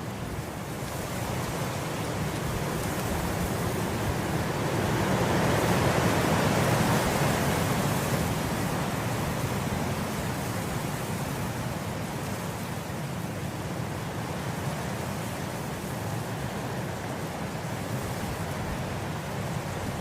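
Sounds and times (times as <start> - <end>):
wind blowing through grass: 0.0 - 20.0.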